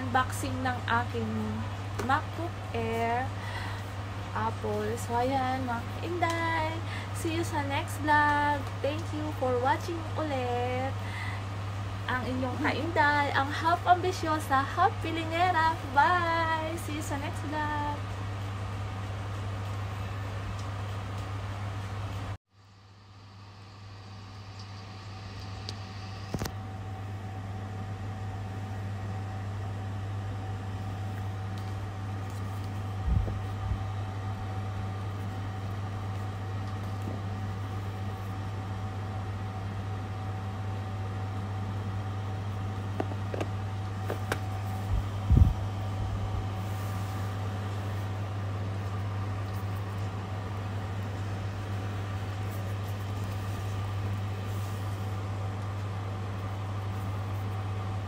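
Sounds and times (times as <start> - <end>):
low machine hum with whine: 0.0 - 58.0.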